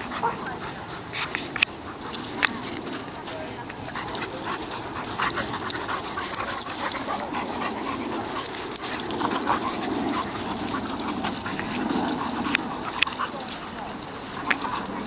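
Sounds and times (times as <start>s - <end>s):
dogs play-fighting growls: 0.0s - 15.0s
paws scuffing on gravel: 0.0s - 15.0s.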